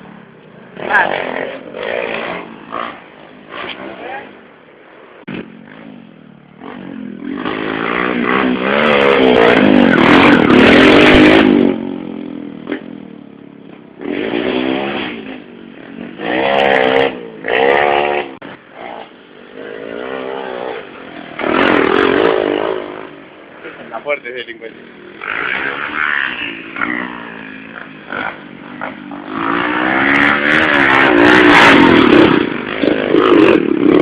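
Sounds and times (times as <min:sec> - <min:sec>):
motorcycles racing past: 0:00.0 - 0:34.0.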